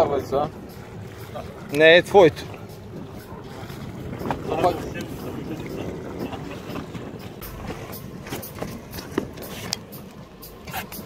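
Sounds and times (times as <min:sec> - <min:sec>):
boat engine low rumble: 0:00.0 - 0:11.0.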